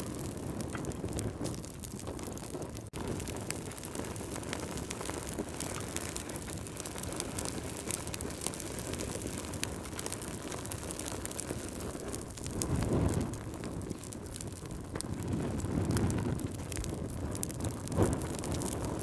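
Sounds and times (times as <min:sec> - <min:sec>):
rush of flame: 0:00.0 - 0:19.0
wood fire crackling: 0:00.0 - 0:19.0.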